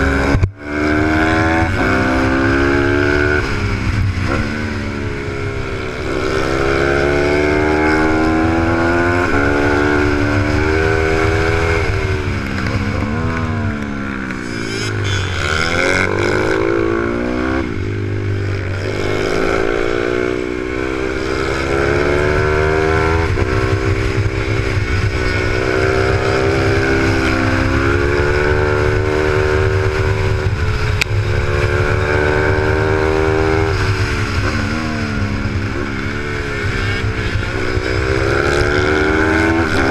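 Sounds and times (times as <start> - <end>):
motorcycle engine revving: 0.0 - 39.9
wind rushing over camera: 0.0 - 39.9.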